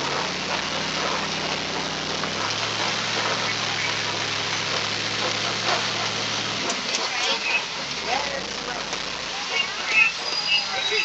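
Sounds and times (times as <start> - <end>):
rain falling on truck: 0.0 - 11.0
truck engine running: 0.0 - 11.0.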